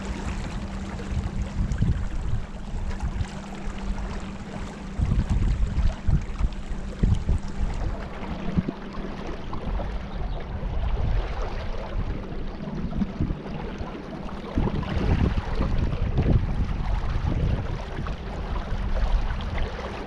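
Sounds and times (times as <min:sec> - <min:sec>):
low hum: 0:00.0 - 0:20.0
water rushing: 0:00.0 - 0:20.0
wind: 0:00.0 - 0:20.0.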